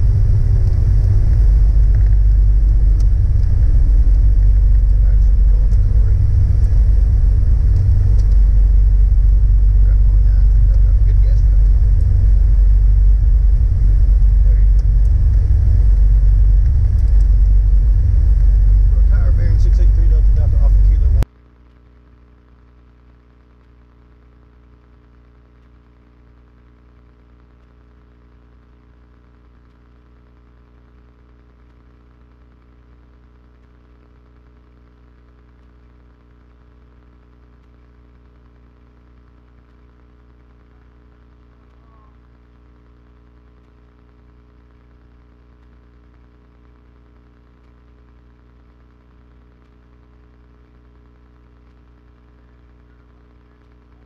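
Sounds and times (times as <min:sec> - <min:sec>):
electrical hum with static: 0:00.0 - 0:54.0.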